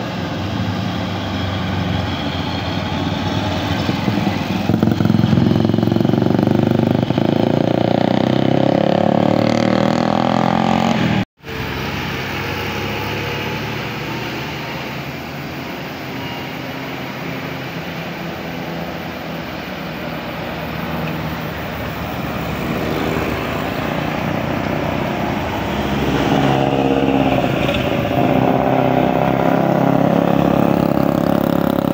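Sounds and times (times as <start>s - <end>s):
road traffic passing: 0.0s - 31.9s.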